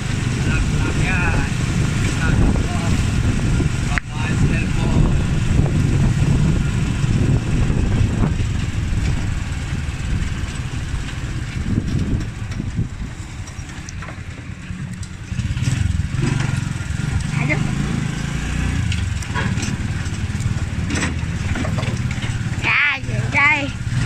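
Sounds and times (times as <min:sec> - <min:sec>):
small vehicle engine running: 0:00.0 - 0:24.0
wind and road rumble: 0:00.0 - 0:24.0.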